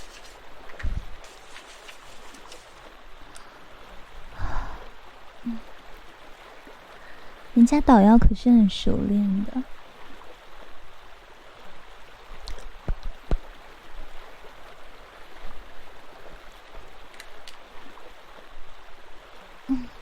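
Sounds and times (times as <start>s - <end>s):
steady watery hiss: 0.0s - 20.0s.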